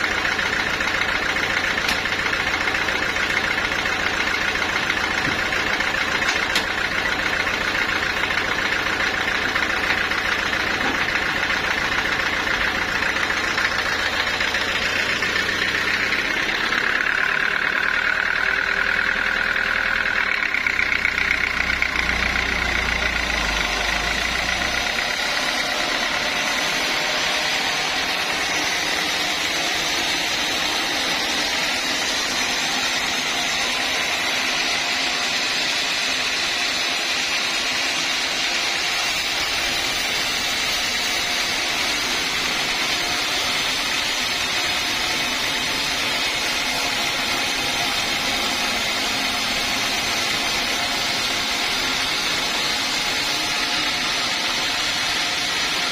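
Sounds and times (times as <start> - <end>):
sawmill machinery hissing: 0.0 - 55.9.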